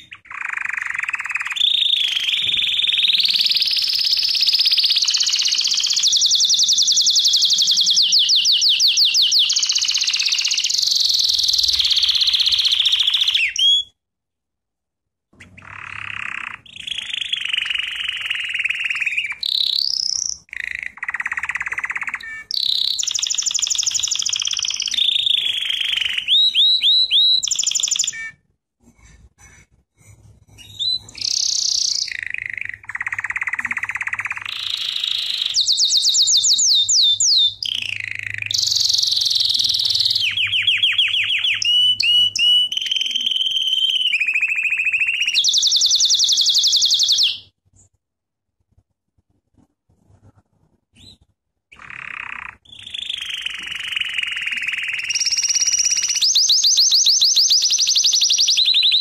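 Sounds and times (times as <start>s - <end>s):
canary singing fast trills: 0.0s - 14.0s, 15.3s - 28.5s, 29.7s - 47.6s, 50.9s - 59.0s.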